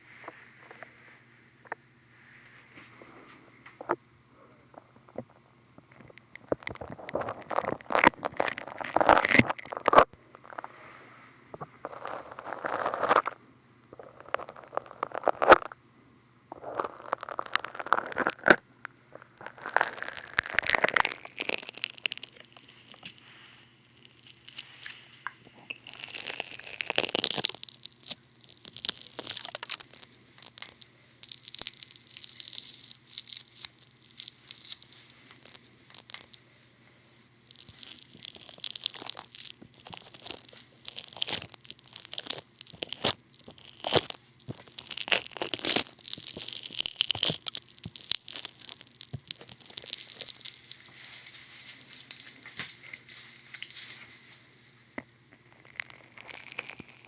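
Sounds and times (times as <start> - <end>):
foam squished crinkly crackling: 5.8 - 15.8, 16.5 - 36.5, 37.3 - 54.4, 55.4 - 57.0.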